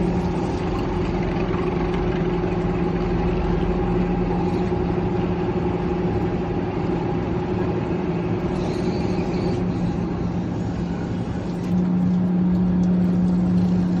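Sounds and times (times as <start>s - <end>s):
machinery humming and whirring: 0.0s - 14.0s.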